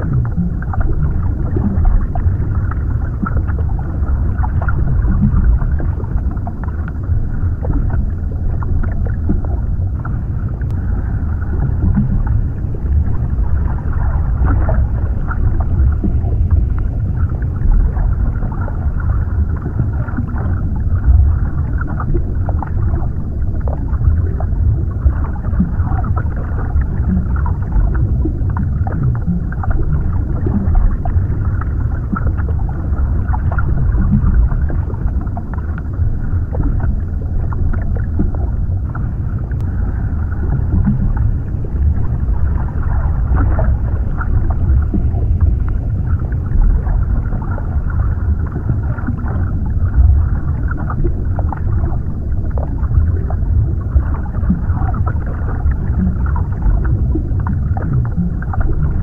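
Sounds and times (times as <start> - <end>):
muffled underwater rumble: 0.0 - 59.0.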